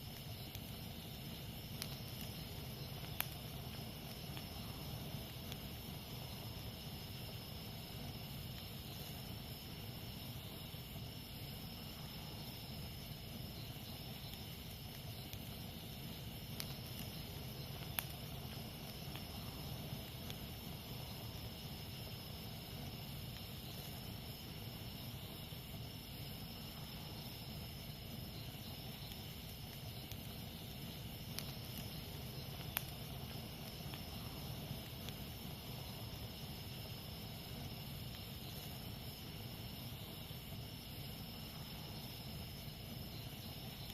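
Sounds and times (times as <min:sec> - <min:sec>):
campfire burning: 0:00.0 - 0:43.9
fire crackling pops: 0:00.0 - 0:43.9
insects buzzing: 0:00.0 - 0:43.9.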